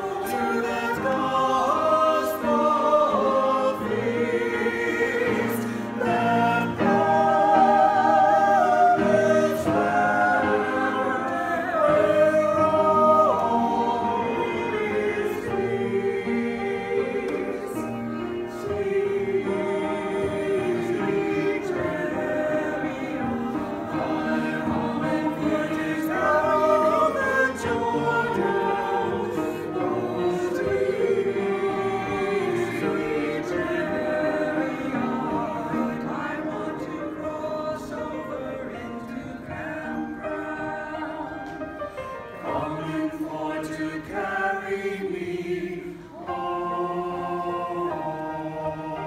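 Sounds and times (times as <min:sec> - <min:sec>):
mixed choir singing a hymn: 0:00.0 - 0:49.0.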